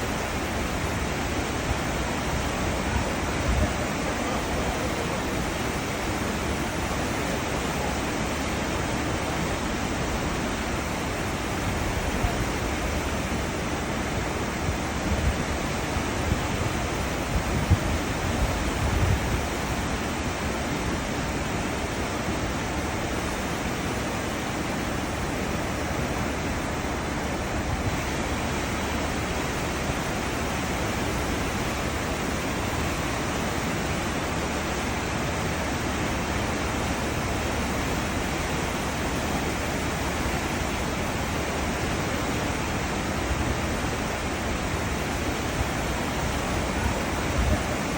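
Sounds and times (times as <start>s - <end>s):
churning seawater rushing: 0.0s - 47.9s.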